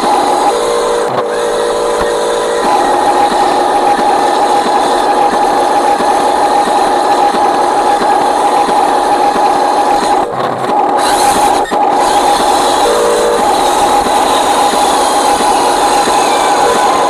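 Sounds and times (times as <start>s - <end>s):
model truck motor whining: 0.0s - 17.0s.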